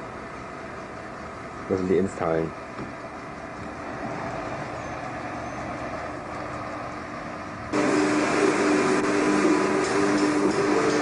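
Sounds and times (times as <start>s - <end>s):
machine hum with steady tones: 0.0s - 11.0s
steady background noise: 0.0s - 11.0s.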